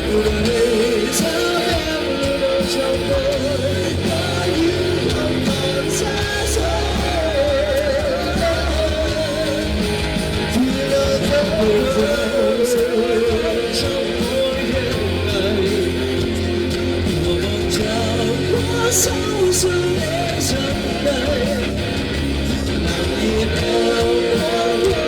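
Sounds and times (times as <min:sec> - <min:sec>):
slow rock song with guitar: 0:00.0 - 0:25.0.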